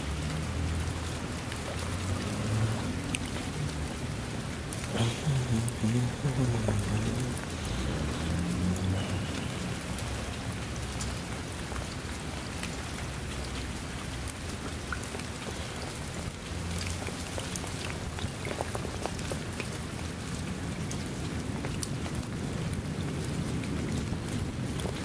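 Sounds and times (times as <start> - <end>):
rain pattering on puddle: 0.0 - 25.0.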